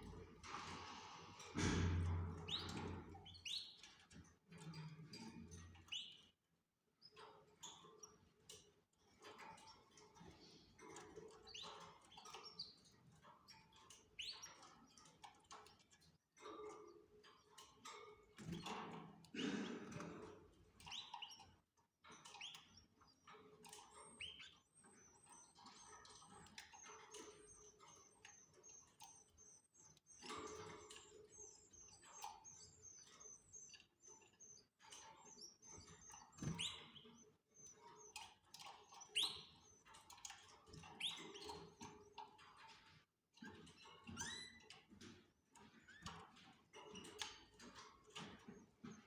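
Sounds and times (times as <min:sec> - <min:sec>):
canaries chirping: 0:00.0 - 0:06.4, 0:07.0 - 0:49.0.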